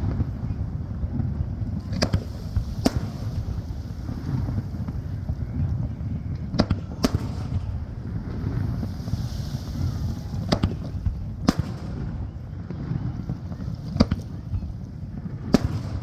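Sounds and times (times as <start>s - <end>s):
fireworks bursting bangs: 0.0s - 16.0s
wind rumble on microphone: 0.0s - 16.0s.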